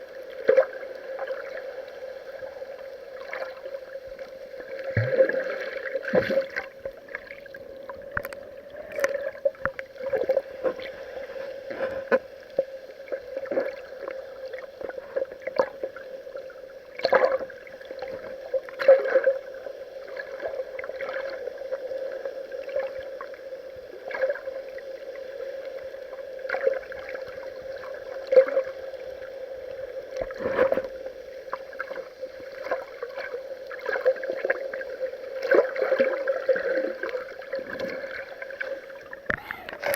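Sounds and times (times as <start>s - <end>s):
muffled water sloshing and splashing: 0.0s - 39.9s.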